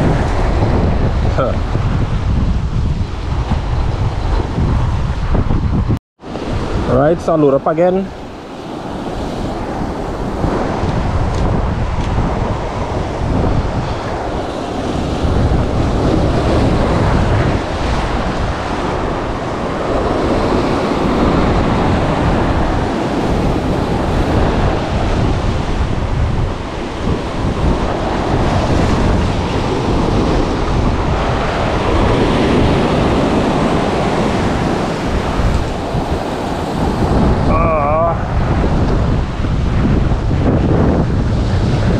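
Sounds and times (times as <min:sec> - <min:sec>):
surf breaking on rocky shore: 0:00.0 - 0:41.9
wind buffeting microphone: 0:00.0 - 0:41.9.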